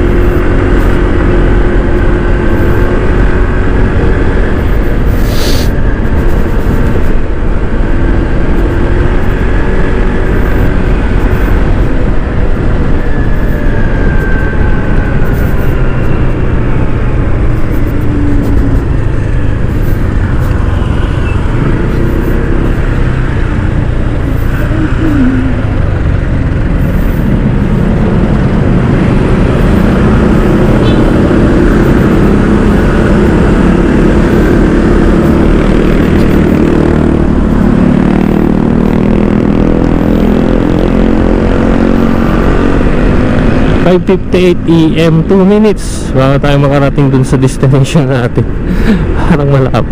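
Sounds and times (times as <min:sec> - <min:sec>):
scooter engine running: 0:00.0 - 0:43.6
road and wind noise: 0:00.0 - 0:49.9.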